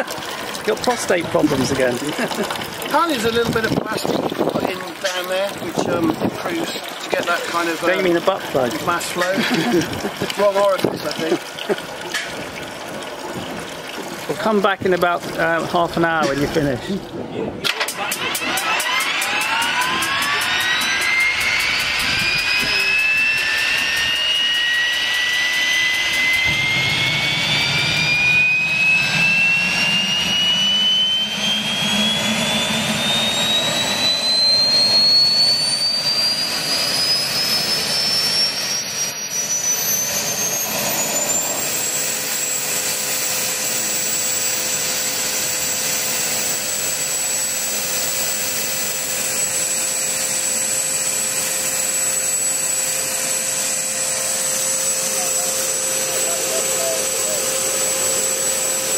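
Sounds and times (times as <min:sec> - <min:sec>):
gas turbine engine whine: 0:00.0 - 0:58.9.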